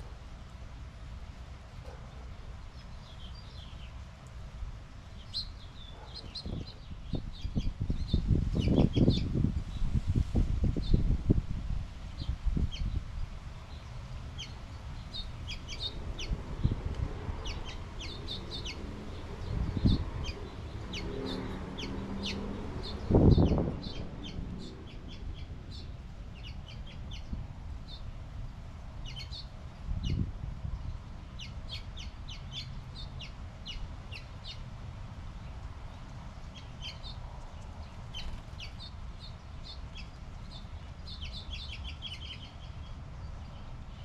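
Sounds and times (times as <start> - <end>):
small songbirds chirping: 1.7 - 11.4, 12.0 - 44.0.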